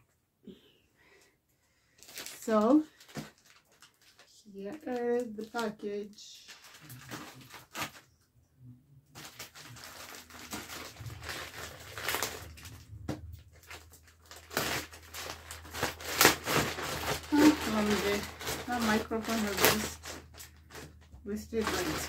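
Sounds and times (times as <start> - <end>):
plastic mailer bag rustling: 2.0 - 8.1, 9.2 - 22.0.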